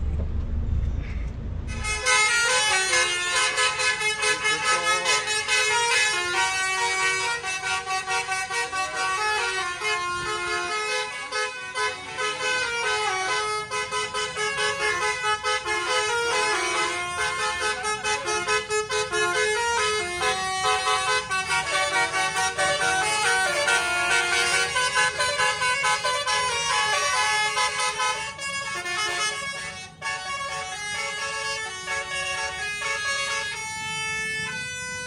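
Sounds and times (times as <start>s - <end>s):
bus air horn melody: 1.7s - 35.0s.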